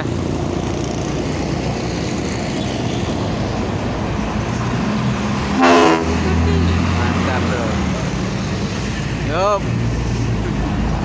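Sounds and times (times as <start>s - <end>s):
diesel bus engine running: 0.0s - 11.0s
traffic noise: 0.0s - 11.0s.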